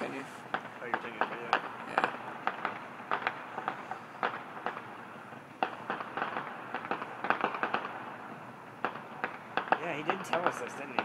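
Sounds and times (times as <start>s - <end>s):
fireworks crackling pops: 0.0s - 11.0s.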